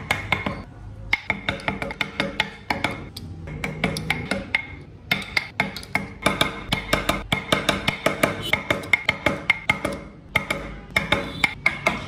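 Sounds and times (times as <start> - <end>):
wood-block percussion beat: 0.0 - 12.0.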